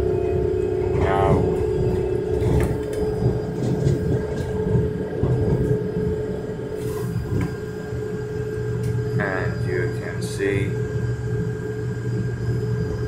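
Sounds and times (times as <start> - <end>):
electric train drive hum: 0.0 - 13.0
wheels rumbling on track: 0.0 - 13.0.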